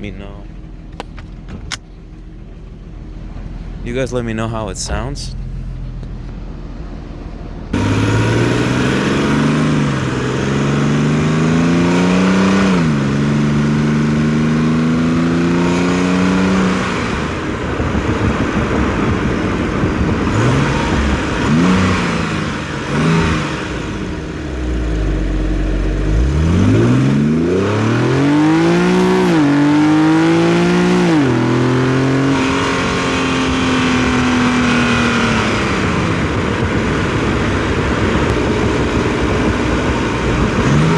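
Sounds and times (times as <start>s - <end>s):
car engine accelerating through gears: 4.9s - 40.9s.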